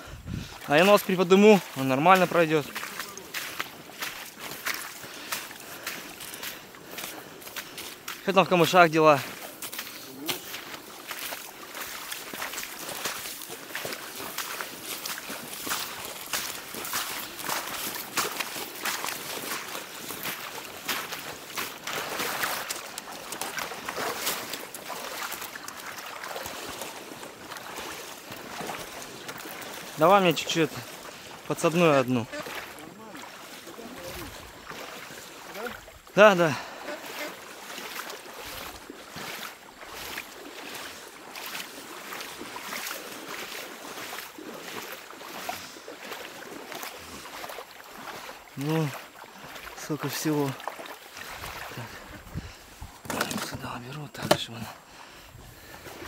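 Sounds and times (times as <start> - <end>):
boat hull swishing through water: 0.0 - 56.0
wading steps splashing in water: 0.0 - 56.0.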